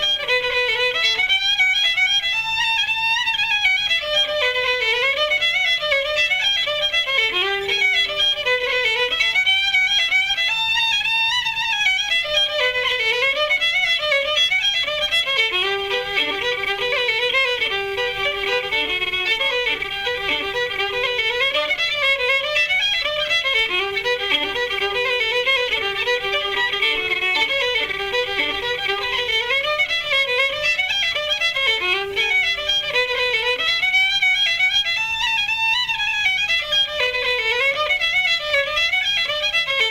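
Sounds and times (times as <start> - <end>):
solo fiddle playing a tune: 0.0 - 39.9.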